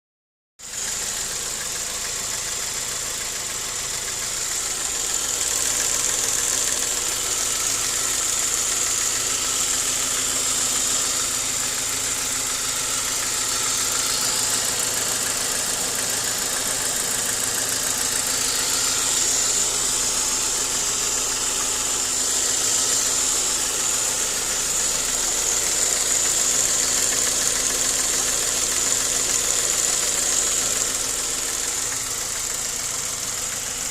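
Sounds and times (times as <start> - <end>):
car engine idling: 0.6 - 33.9.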